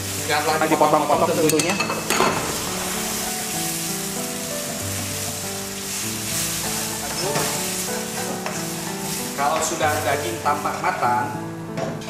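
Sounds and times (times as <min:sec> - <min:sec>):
meat sizzling in a wok: 0:00.0 - 0:11.8
background music: 0:00.0 - 0:12.0.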